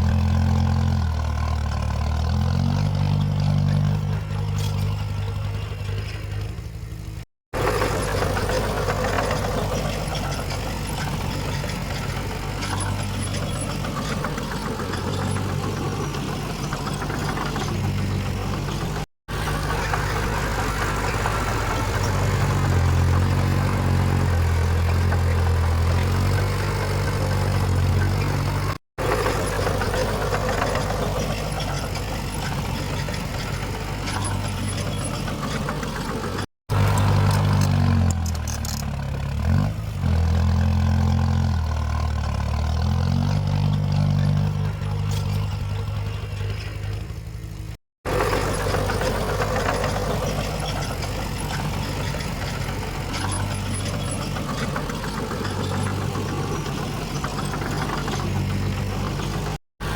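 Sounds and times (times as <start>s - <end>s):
diesel machinery engine revving: 0.0s - 59.9s
mechanical clatter: 2.8s - 39.0s, 43.8s - 59.9s.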